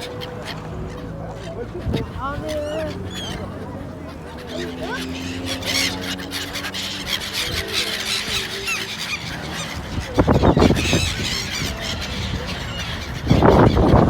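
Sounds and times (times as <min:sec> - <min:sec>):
gulls calling: 0:00.0 - 0:14.0.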